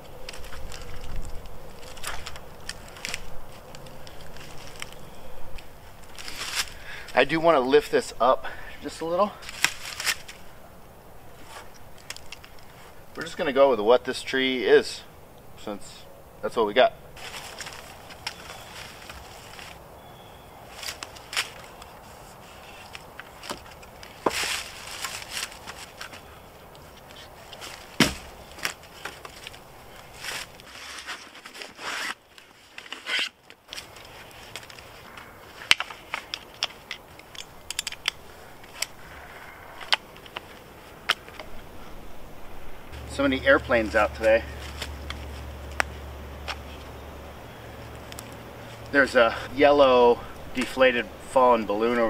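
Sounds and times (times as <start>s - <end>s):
twine rustling and scraping: 0.0s - 8.1s, 8.8s - 10.5s, 11.3s - 13.7s, 15.6s - 19.8s, 20.6s - 52.0s
shuffling in dry leaves: 0.0s - 13.7s, 17.1s - 52.0s.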